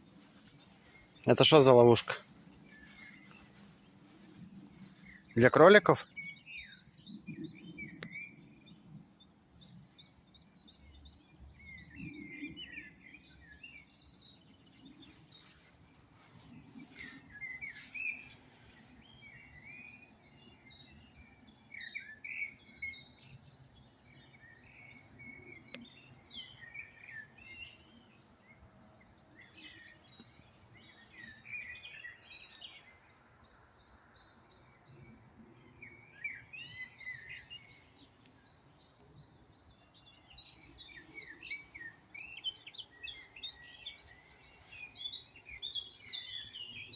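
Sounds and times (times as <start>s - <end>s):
songbirds singing: 0.0s - 46.9s.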